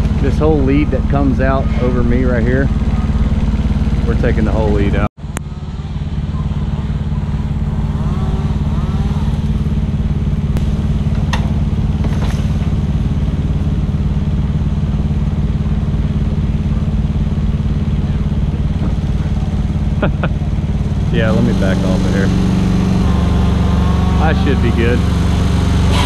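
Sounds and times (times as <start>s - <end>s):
diesel engine running steadily: 0.0s - 26.0s.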